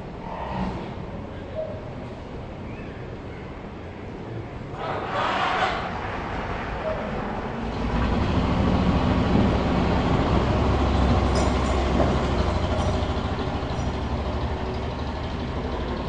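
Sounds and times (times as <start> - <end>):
low noisy rumble: 0.0 - 16.0.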